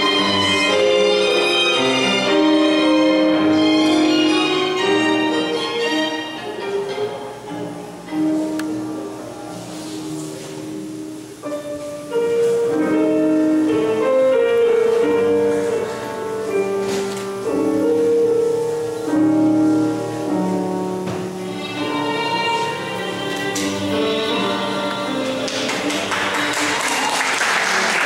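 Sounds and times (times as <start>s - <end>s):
slow melodic instrumental music: 0.0s - 26.1s.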